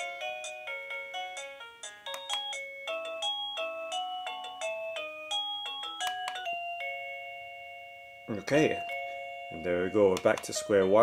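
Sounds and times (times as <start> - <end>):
electronic doorbell chime melody: 0.0 - 11.0.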